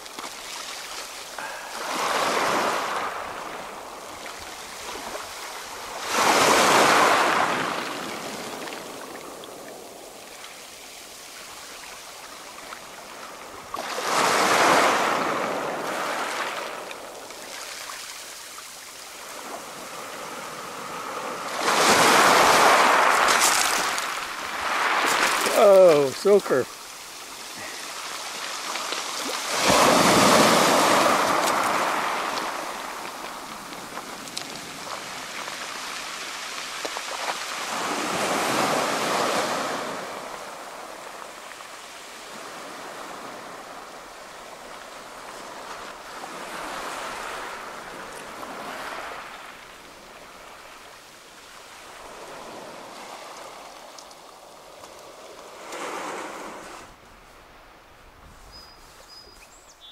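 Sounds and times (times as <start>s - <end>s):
waves washing on pebble beach: 0.0s - 57.0s.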